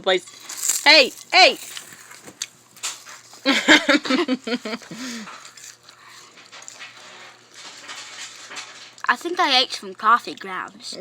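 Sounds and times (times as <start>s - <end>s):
chewing and crunching: 0.0s - 3.6s, 4.6s - 11.0s.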